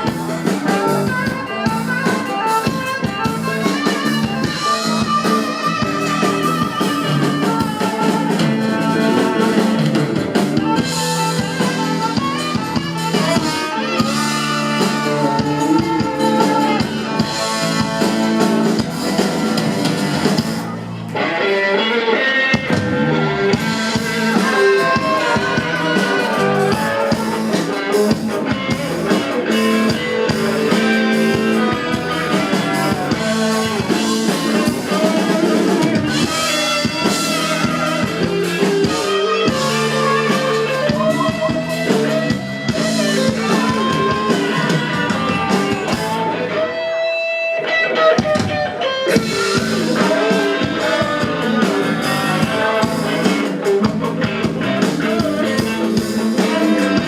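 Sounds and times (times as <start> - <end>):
drum kit: 0.0 - 21.8, 22.5 - 57.0
bass: 0.0 - 57.0
guitar: 0.0 - 57.0.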